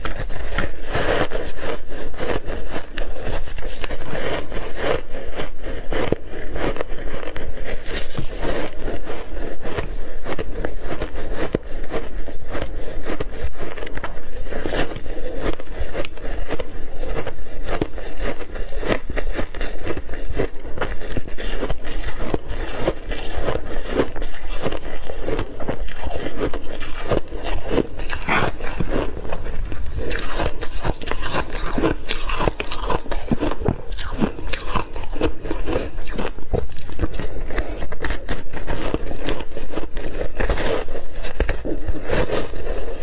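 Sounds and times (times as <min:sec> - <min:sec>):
ice crunching between teeth: 0:00.0 - 0:43.0.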